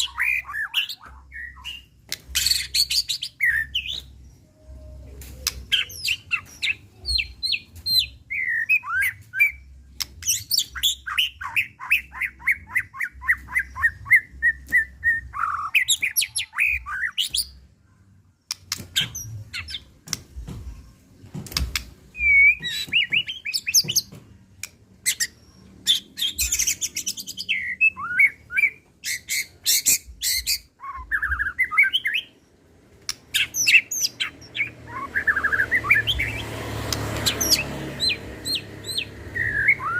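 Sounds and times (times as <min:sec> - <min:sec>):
bird singing whistles and trills: 0:00.0 - 0:17.6, 0:22.1 - 0:24.1, 0:25.1 - 0:32.4, 0:33.3 - 0:36.5, 0:37.2 - 0:39.9.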